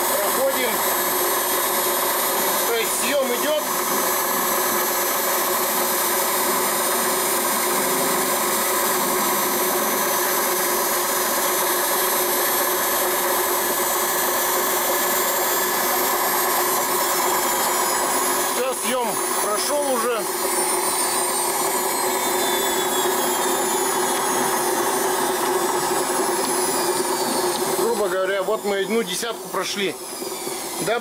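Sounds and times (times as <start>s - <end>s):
cutting tool on spinning metal: 0.0s - 31.0s
lathe motor hum and whine: 0.0s - 31.0s.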